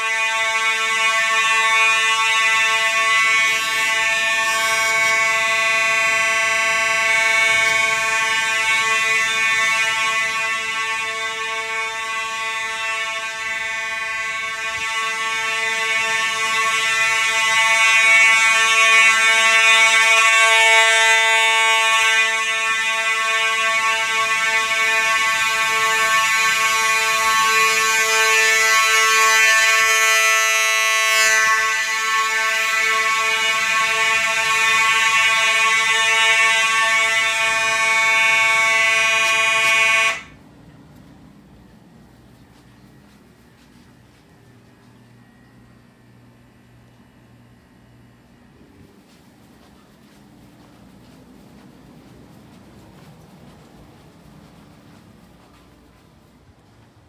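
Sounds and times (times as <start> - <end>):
fire alarm horn buzzing: 0.0 - 40.5, 41.6 - 56.8.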